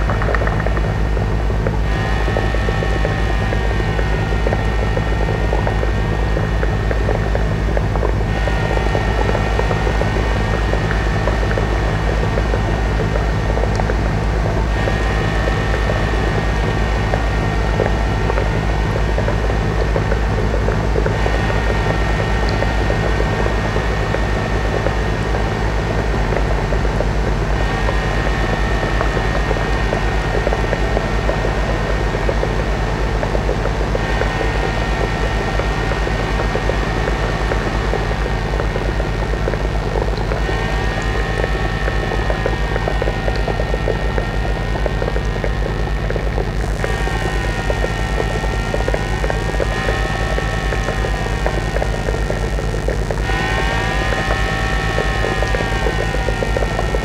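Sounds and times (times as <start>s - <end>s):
electronic drone music: 0.0s - 57.0s.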